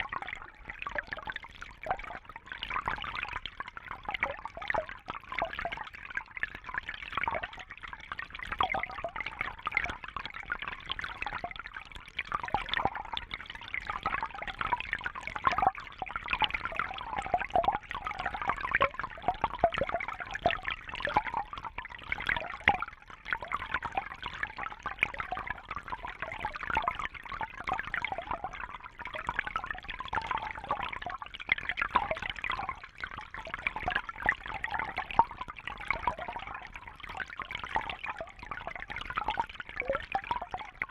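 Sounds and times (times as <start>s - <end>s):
water trickling and bubbling: 0.0s - 40.9s.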